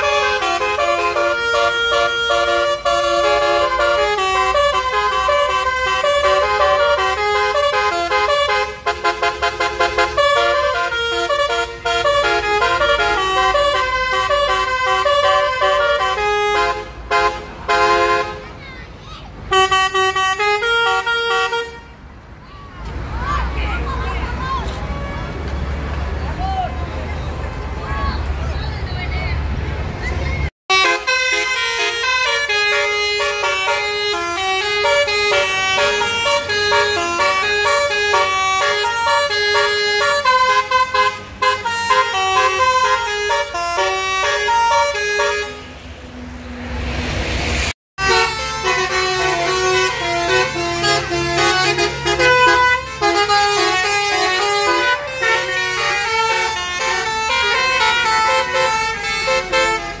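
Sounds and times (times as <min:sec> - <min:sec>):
musical horn playing jaunty melody: 0:00.0 - 0:18.5, 0:19.5 - 0:22.0, 0:30.7 - 0:46.0, 0:46.8 - 1:00.0.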